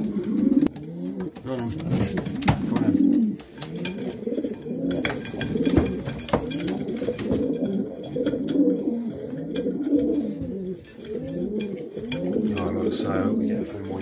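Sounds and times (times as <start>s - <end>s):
pigeons cooing: 0.0s - 14.0s
sharp clicks and knocks: 0.1s - 12.8s.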